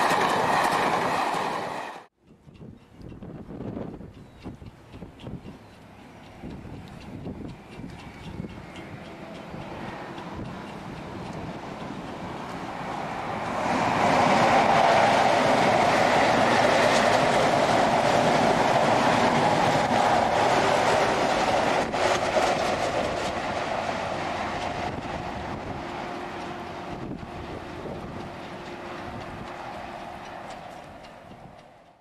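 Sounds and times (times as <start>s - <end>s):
train passing on rails: 0.0s - 32.0s.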